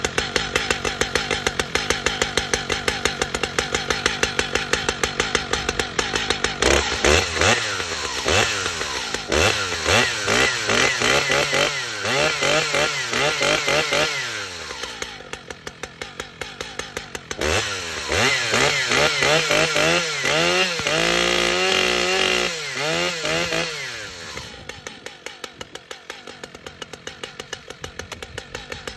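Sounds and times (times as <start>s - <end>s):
chainsaw idling and revving: 0.0s - 28.9s.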